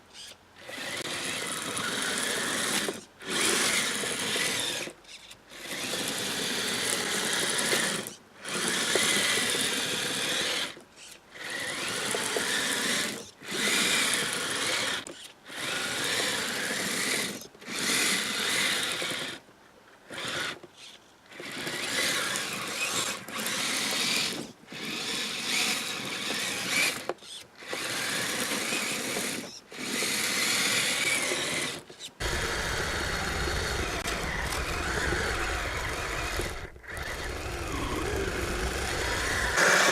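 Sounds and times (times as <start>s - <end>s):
electric motor whining: 0.2s - 19.4s, 20.2s - 39.9s.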